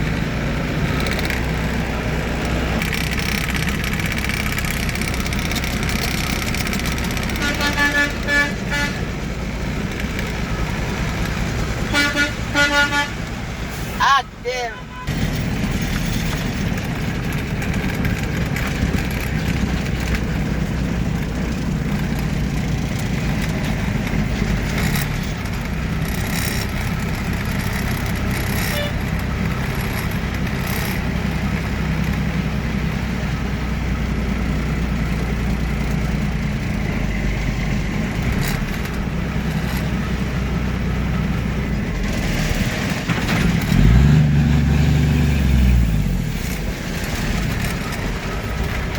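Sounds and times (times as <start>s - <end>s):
road noise: 0.0s - 48.9s
truck engine running: 0.0s - 48.9s.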